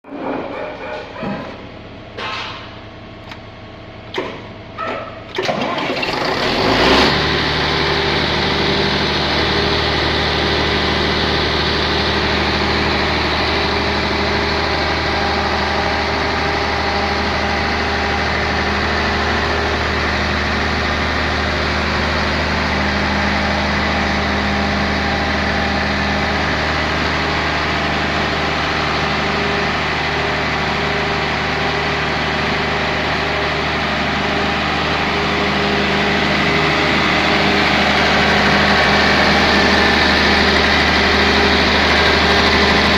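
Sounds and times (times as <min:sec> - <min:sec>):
diesel generator engine running: 0:00.0 - 0:42.9.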